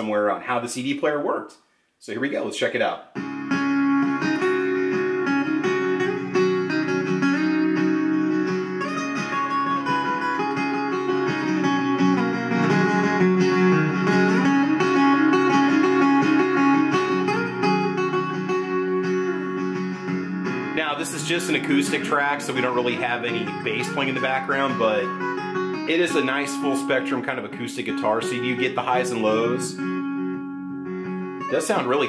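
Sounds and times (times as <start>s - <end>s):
acoustic guitar music from speakers: 3.2s - 32.0s.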